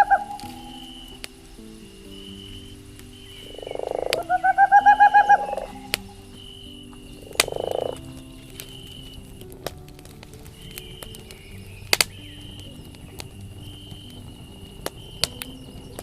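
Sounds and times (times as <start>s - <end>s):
campfire crackles: 0.0s - 16.0s
soft sustained notes: 0.0s - 16.0s.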